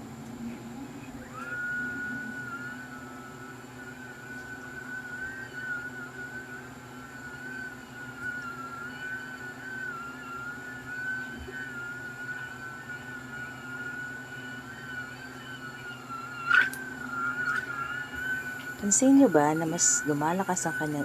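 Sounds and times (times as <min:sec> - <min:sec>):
low hum: 0:00.0 - 0:21.0
small motor whine: 0:00.0 - 0:21.0.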